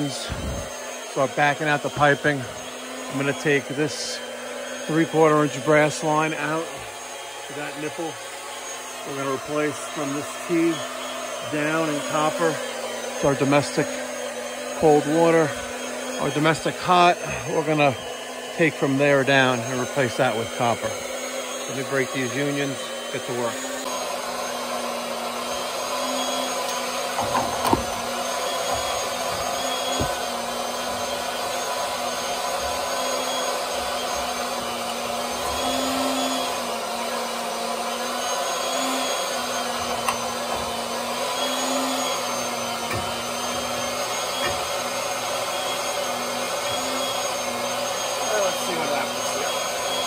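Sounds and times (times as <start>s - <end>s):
electric pump motor whine: 0.0s - 50.0s.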